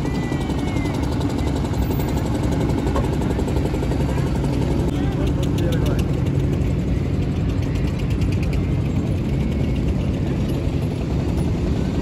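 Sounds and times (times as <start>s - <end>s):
motorboat engine rumbling: 0.0s - 12.0s.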